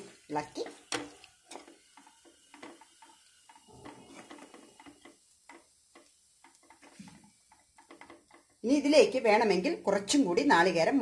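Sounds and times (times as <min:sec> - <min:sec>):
spatula scraping and tapping pan: 0:00.0 - 0:09.2.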